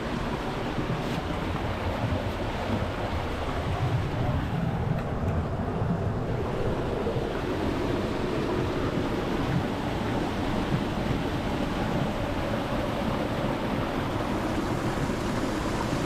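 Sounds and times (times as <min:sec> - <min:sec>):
waterfall roaring: 0:02.8 - 0:16.0.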